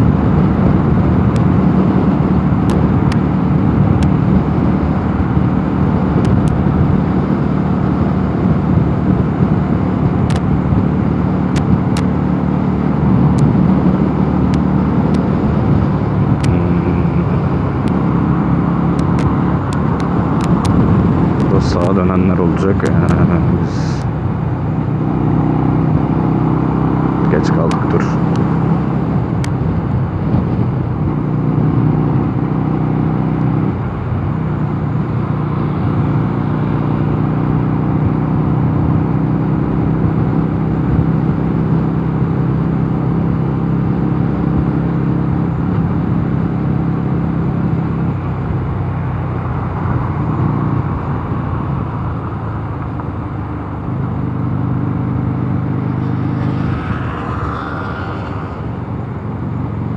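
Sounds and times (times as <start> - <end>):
motorcycle engine running: 0.0 - 44.7, 45.5 - 59.9
wind and road noise: 0.0 - 59.9.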